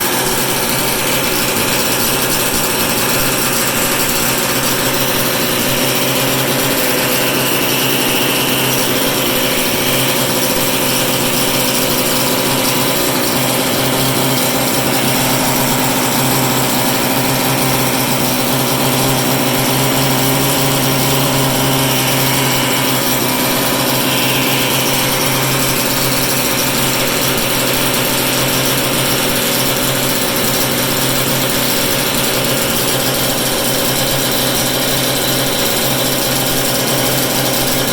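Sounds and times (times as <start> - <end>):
engine droning steadily: 0.0 - 37.9.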